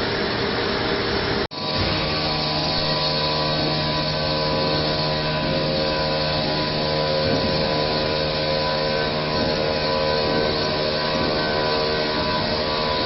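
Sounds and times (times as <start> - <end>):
saw motor humming: 0.0 - 13.0.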